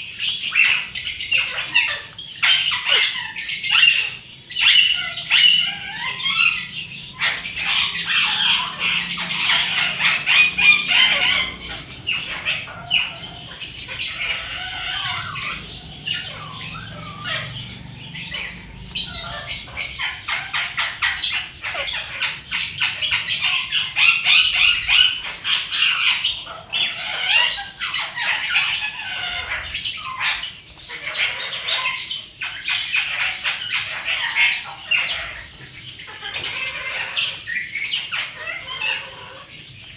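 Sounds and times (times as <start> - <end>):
parrot squawking: 0.0 - 39.9.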